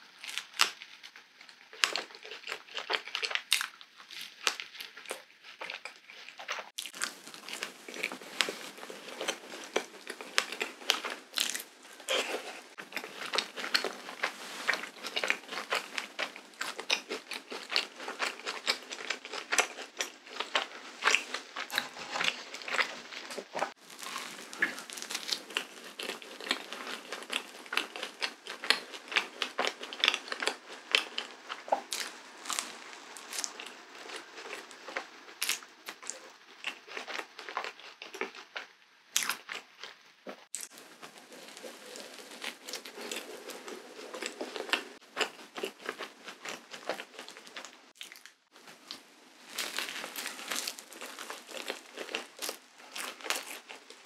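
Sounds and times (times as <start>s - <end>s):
crisp waffle crunching: 0.2s - 54.0s.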